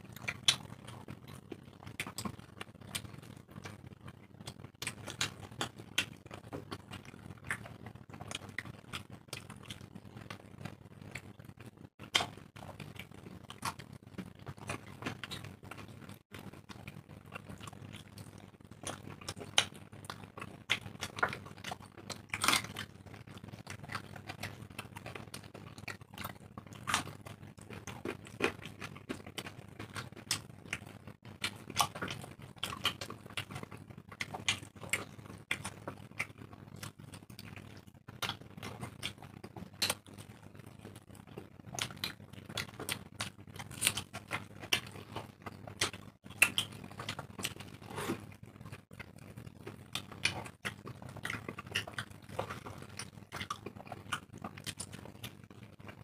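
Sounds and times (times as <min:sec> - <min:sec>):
chewing and mouth sounds: 0:00.0 - 0:56.0
faint low hum: 0:00.0 - 0:56.0.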